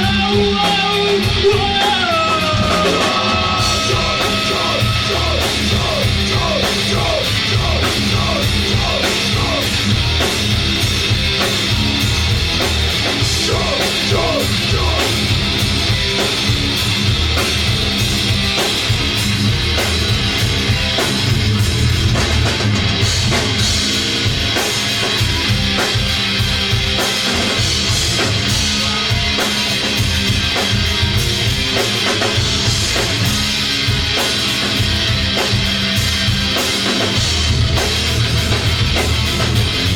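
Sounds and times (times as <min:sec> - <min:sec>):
bass guitar: 0:00.0 - 0:39.9
drum kit beat: 0:00.0 - 0:39.9
electric guitar: 0:00.0 - 0:39.9.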